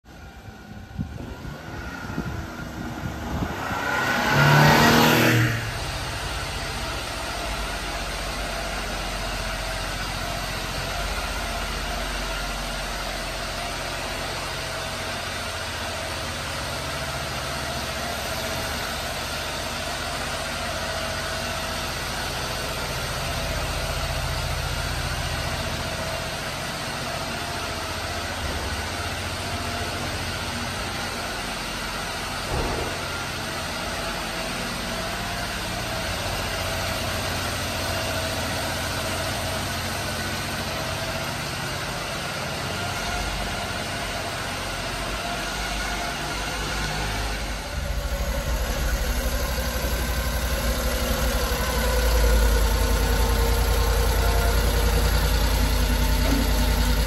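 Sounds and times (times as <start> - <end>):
truck engine revving and idling: 0.0 - 57.0.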